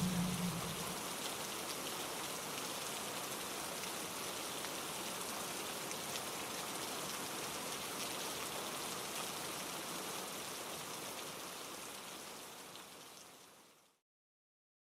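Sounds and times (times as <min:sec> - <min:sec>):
cascading mountain stream: 0:00.0 - 0:13.9
rain pattering on leaves: 0:00.0 - 0:14.0.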